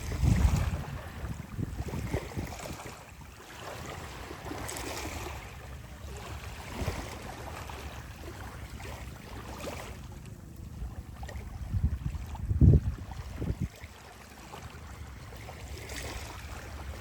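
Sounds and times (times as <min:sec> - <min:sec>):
sea waves washing onto shore: 0:00.0 - 0:17.0
wind rumbling on microphone: 0:00.0 - 0:17.0.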